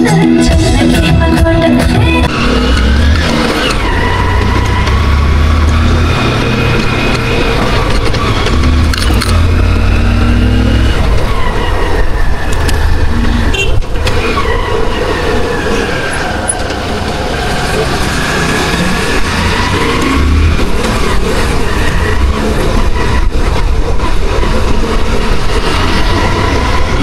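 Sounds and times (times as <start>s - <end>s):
road noise: 0.0s - 27.0s
vehicle engines: 0.0s - 27.0s.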